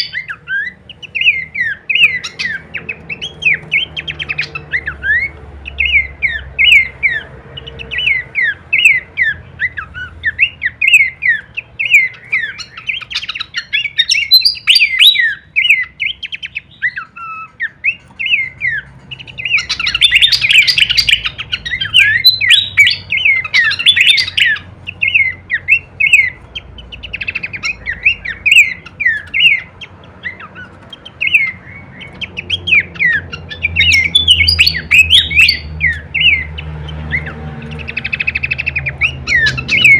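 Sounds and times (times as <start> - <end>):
babbler chirping: 0.0 - 39.9.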